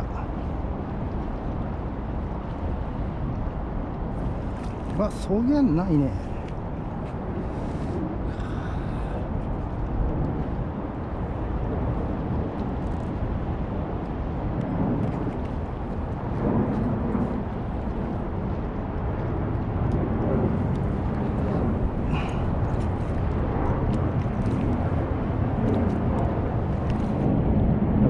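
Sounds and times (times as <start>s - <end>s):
low rumbling outdoor noise: 0.0s - 28.0s.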